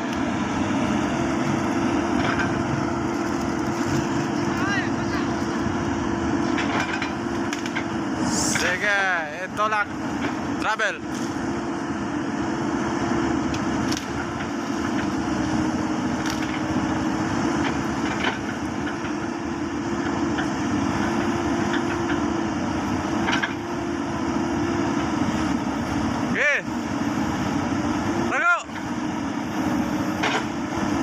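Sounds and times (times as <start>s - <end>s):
bulldozer diesel engine under load: 0.0s - 31.0s.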